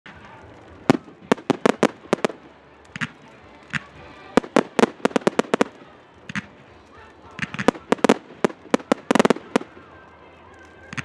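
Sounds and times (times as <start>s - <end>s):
fireworks bursting: 0.1s - 11.0s.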